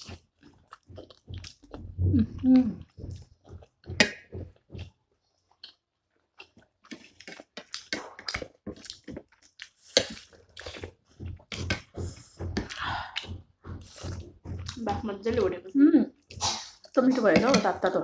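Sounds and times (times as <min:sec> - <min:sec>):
slurping: 0:00.0 - 0:15.4, 0:16.2 - 0:17.8
chewing: 0:00.0 - 0:15.5.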